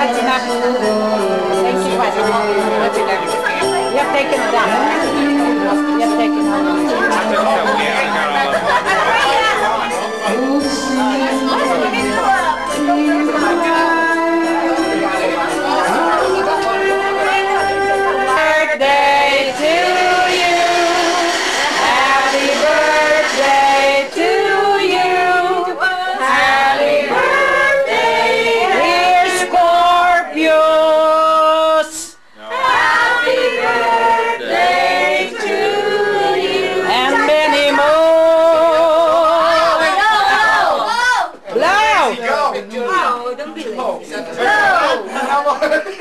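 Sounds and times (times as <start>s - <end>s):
group singing birthday song: 0.0s - 42.5s.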